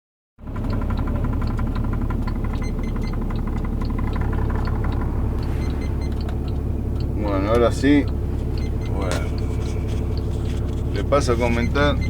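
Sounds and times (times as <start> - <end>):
diesel engine idling: 0.4 - 12.0
light engine ticking: 0.4 - 12.0.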